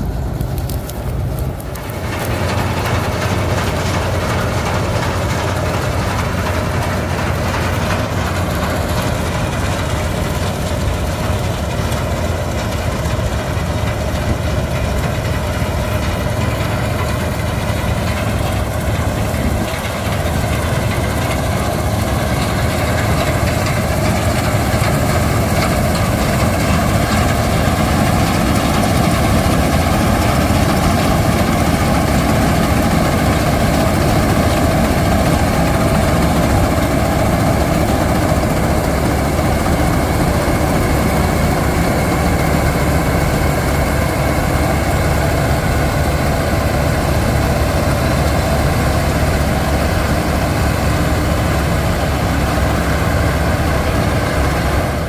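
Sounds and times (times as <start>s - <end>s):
combine harvester droning: 0.0s - 55.0s.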